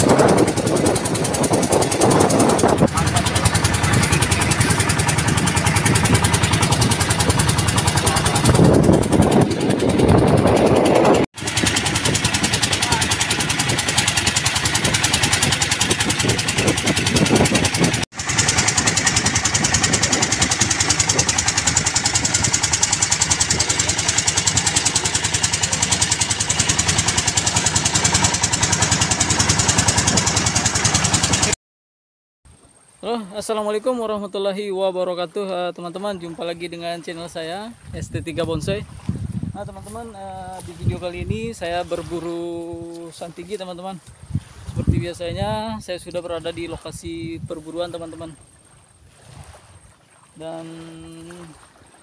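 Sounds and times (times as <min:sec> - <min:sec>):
boat engine chugging: 0:00.0 - 0:31.6, 0:32.6 - 0:52.0.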